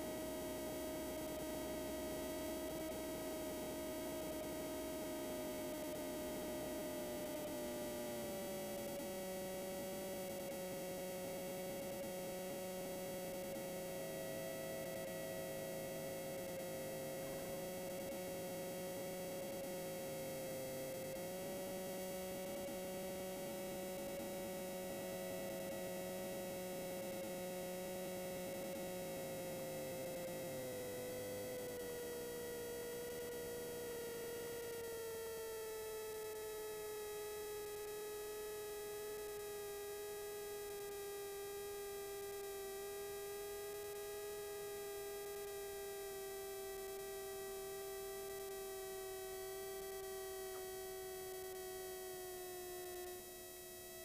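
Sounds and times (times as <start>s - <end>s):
ultralight aircraft engine drone: 0.0s - 54.0s.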